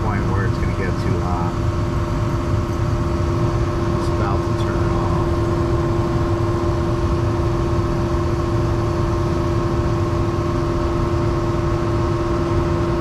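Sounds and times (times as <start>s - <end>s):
furnace blower fan humming: 0.0s - 13.0s.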